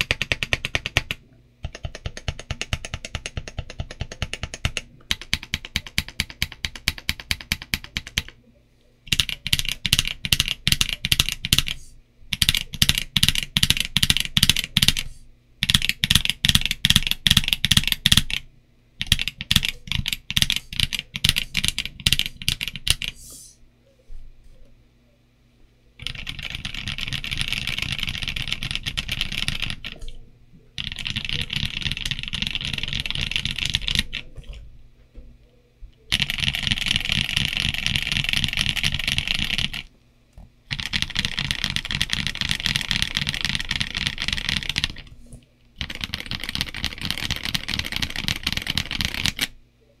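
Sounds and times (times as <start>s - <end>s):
fast typing on mechanical keyboard: 0.0s - 8.4s, 9.1s - 23.2s, 26.0s - 30.0s, 30.8s - 34.3s, 36.1s - 39.9s, 40.7s - 45.1s, 45.8s - 49.6s.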